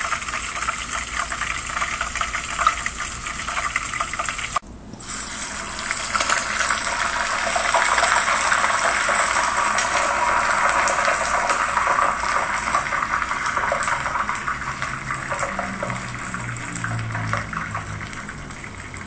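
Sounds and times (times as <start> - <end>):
steak sizzling in a skillet: 0.0 - 16.9
fries deep-frying in hot oil: 0.0 - 19.0.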